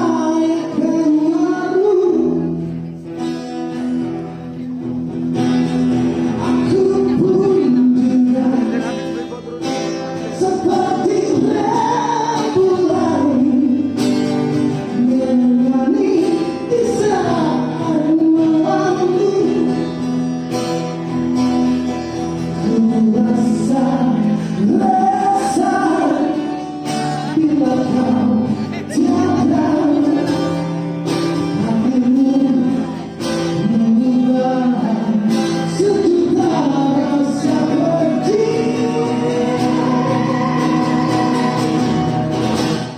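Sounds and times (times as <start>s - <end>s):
lead singer singing: 0.0s - 2.6s, 6.1s - 20.4s, 22.2s - 42.9s
rock band playing live: 0.0s - 42.9s.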